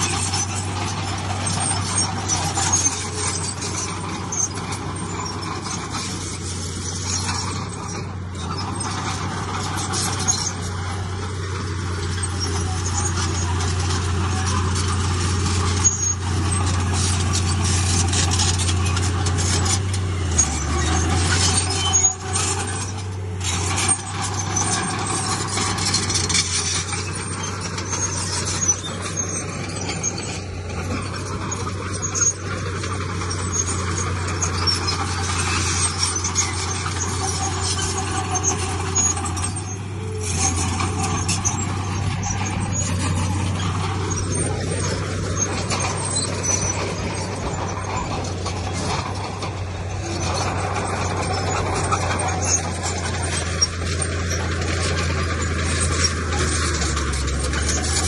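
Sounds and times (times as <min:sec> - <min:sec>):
diesel earthmoving machinery running: 0:00.0 - 0:58.0.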